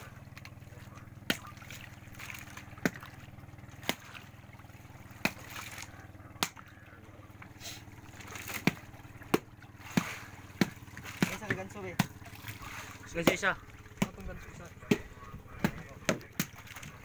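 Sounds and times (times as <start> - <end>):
wooden club striking fish: 0.0 - 6.8, 8.1 - 17.0
lapping water: 0.0 - 17.0
steady low hum: 0.0 - 17.0.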